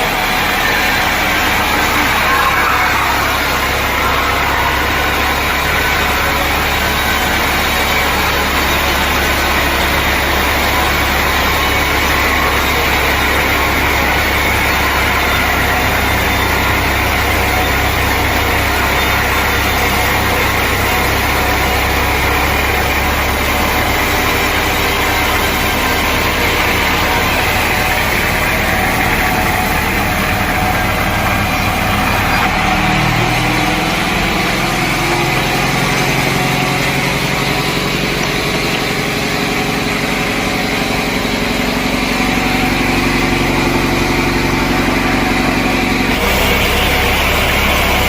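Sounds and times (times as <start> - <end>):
sawmill machinery drone: 0.0 - 48.0.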